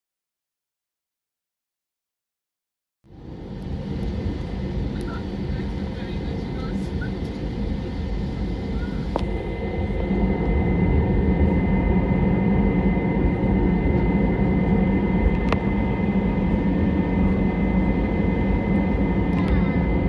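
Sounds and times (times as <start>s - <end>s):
jet engines running: 3.1s - 20.0s.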